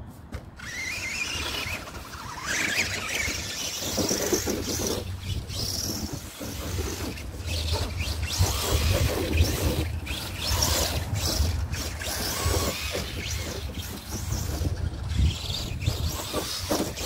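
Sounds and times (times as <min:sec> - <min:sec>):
electric motor whining: 0:00.6 - 0:17.0.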